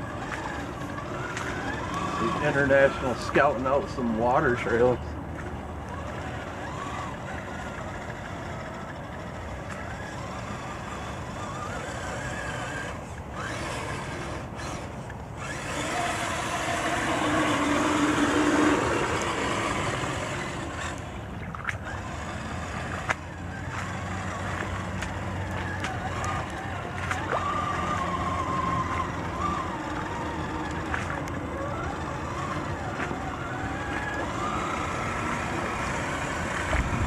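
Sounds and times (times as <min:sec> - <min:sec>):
toy car electric motor whining: 0:00.0 - 0:05.0, 0:05.6 - 0:37.0
water splashing around tyres: 0:00.0 - 0:37.0.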